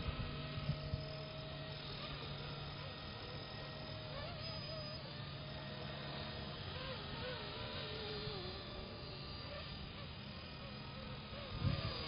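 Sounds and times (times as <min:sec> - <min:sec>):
rc helicopter rotor whine: 0:00.0 - 0:12.0
steady low hum: 0:00.0 - 0:12.0.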